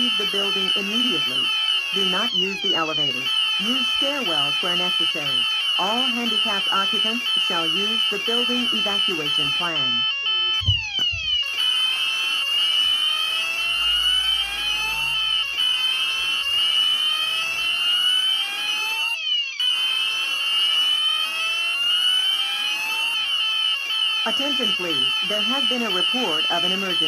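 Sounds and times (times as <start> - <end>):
fire alarm rising sweep tone: 0.0 - 27.0.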